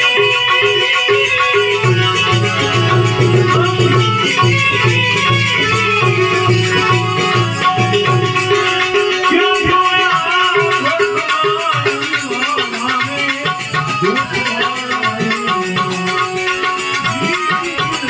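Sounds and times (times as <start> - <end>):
devotional folk music: 0.0 - 18.0
rattling percussion: 0.0 - 18.0
steady drum beat: 0.0 - 18.0.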